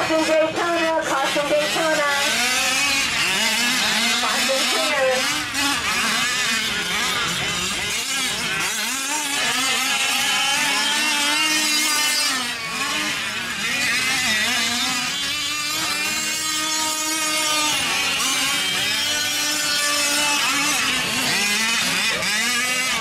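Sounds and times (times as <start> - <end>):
small two-stroke engines revving: 0.0 - 23.0.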